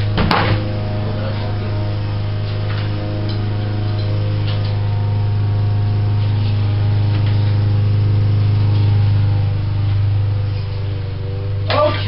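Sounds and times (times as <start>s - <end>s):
air compressor motor hum: 0.0s - 12.0s.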